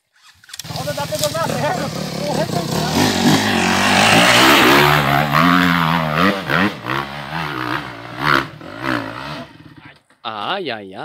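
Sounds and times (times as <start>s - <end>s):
dirt bike engine revving: 0.6s - 9.9s.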